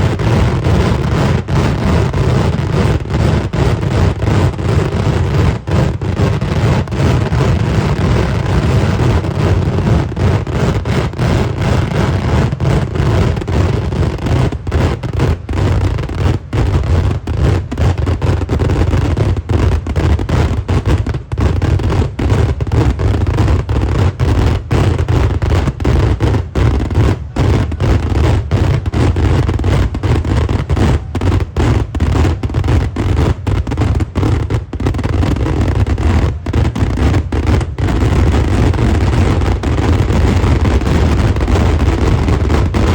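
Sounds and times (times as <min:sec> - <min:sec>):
fireworks explosions rumbling: 0:00.0 - 0:42.9.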